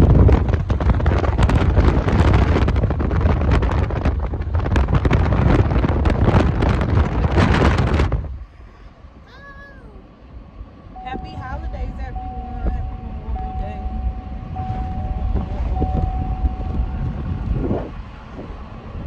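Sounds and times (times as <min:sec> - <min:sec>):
wind buffeting microphone: 0:00.0 - 0:09.2, 0:10.2 - 0:19.0.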